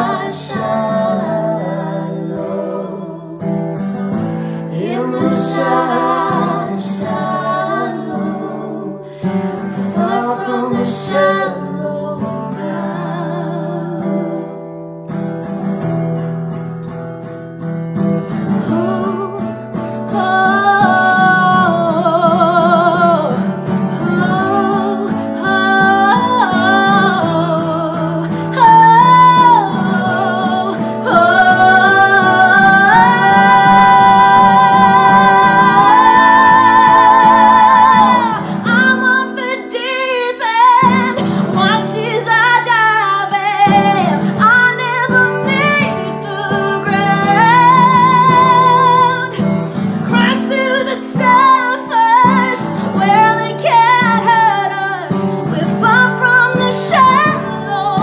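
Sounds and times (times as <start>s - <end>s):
women singing wordless lines: 0.0s - 14.6s, 18.6s - 58.0s
strummed guitar: 0.0s - 58.0s.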